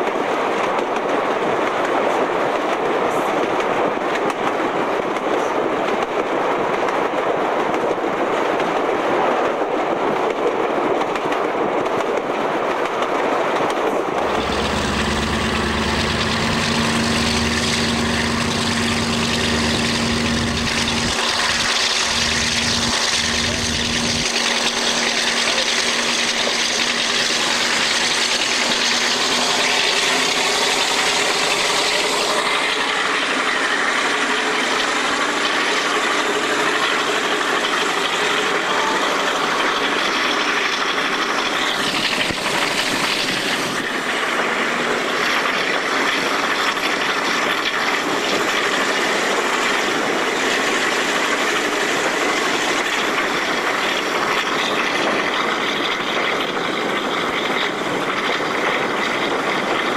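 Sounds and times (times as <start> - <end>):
diesel locomotive engine under power: 0.0 - 59.9
train wheel noise: 0.0 - 59.9.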